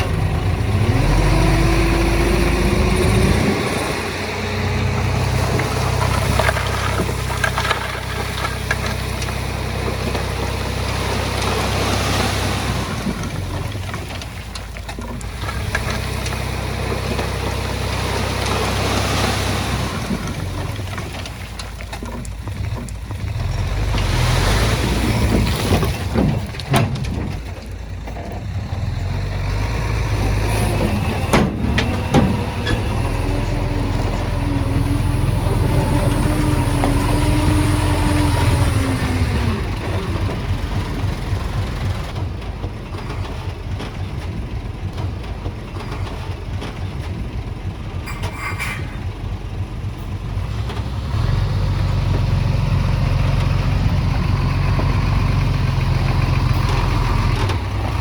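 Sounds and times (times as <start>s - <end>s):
heavy machinery diesel engine: 0.0s - 58.0s
knocks and clatter: 0.0s - 58.0s.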